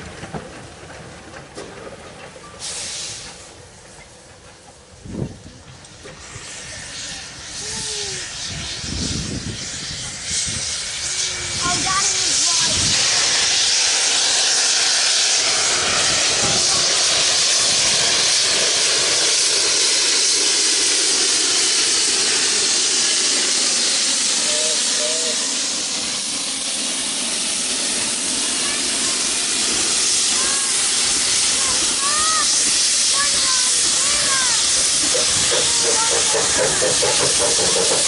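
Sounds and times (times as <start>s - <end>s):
steam hissing: 2.4s - 38.0s.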